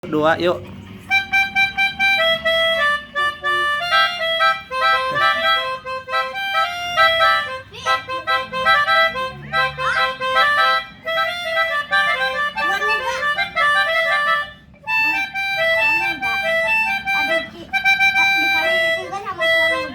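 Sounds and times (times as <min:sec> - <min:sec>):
melodica playing a melody: 0:01.0 - 0:19.9.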